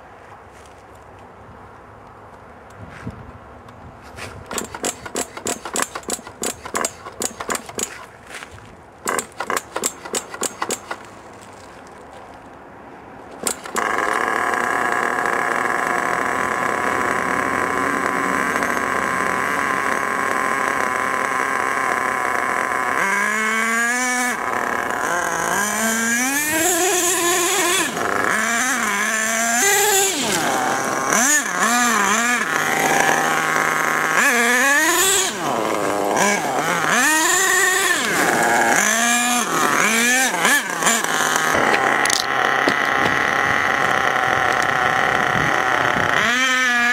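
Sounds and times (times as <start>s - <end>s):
nitro engine revving: 4.5s - 8.1s, 9.0s - 11.1s, 13.4s - 46.9s.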